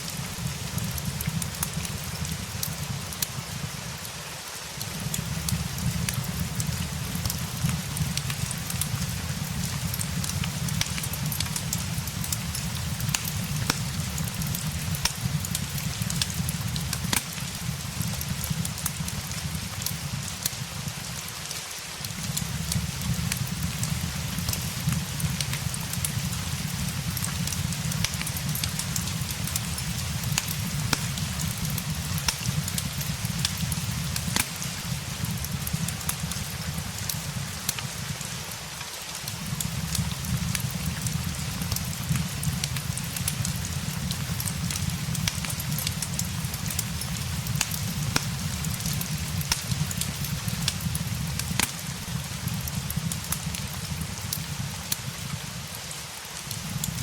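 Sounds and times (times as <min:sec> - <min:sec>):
steady rain hiss: 0:00.0 - 0:57.0
wood fire crackling: 0:00.0 - 0:57.0.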